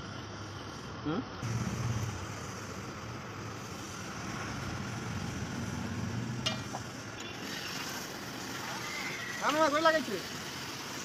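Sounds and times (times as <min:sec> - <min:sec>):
even hiss: 0:00.8 - 0:11.0.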